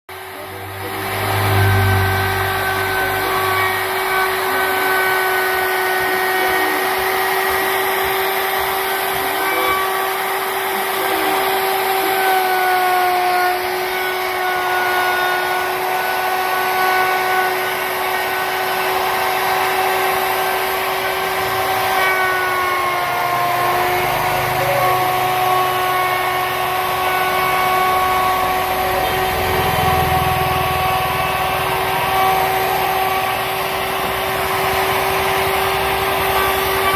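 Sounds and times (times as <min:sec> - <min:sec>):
wood router whining: 0:00.1 - 0:36.9.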